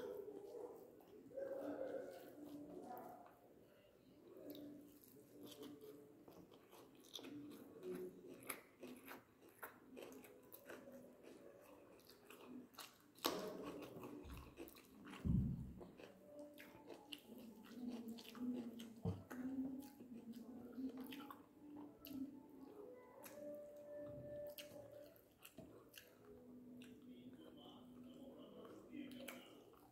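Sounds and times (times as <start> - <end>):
person chewing and smacking: 4.2 - 29.9.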